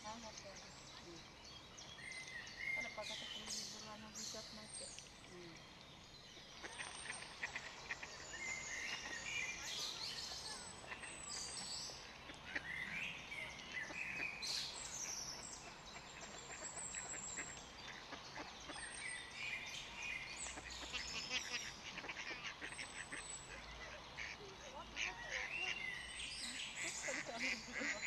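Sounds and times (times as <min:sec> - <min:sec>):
birds calling and chirping: 0:00.0 - 0:28.0.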